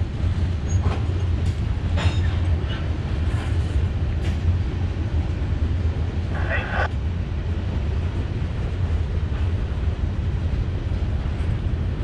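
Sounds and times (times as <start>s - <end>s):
freight train wheels rumbling on track: 0.0s - 12.0s.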